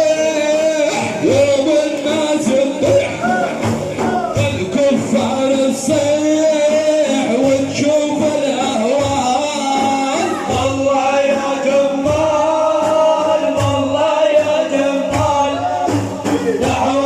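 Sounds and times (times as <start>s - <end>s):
frame drums beating: 0.0s - 17.0s
man chanting: 0.0s - 17.0s.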